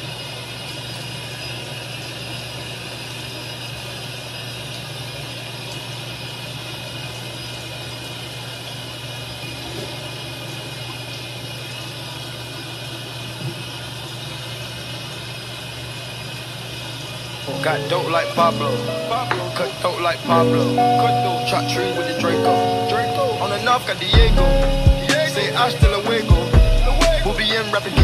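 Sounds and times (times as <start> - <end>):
fan humming: 0.0 - 28.0.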